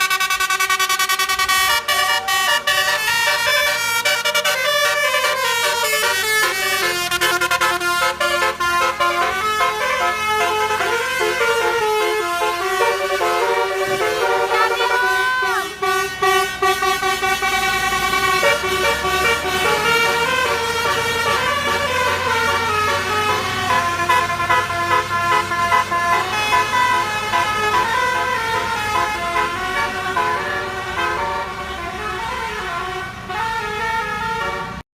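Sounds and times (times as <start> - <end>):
bus engine running: 0.0 - 34.8
multi-tone air horn tune: 0.0 - 34.8.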